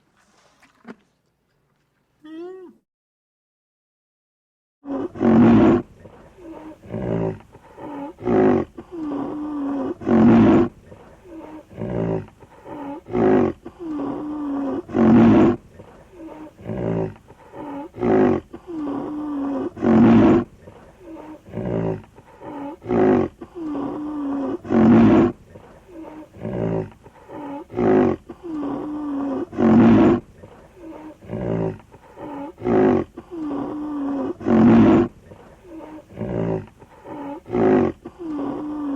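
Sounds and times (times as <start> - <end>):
tiger roaring and grunting: 4.8 - 38.9.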